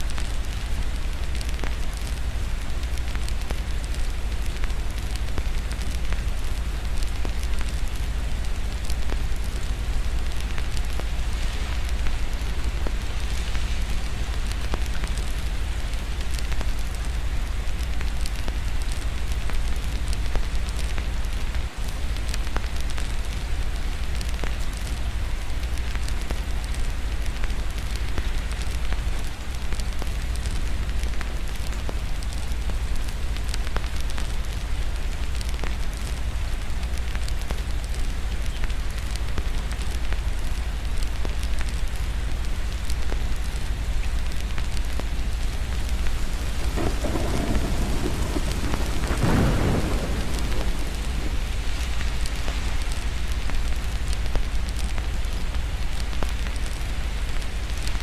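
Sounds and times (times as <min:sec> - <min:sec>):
continuous low rumble: 0:00.0 - 0:58.0
fireplace crackling and popping: 0:00.0 - 0:58.0
rain hiss: 0:00.0 - 0:58.0.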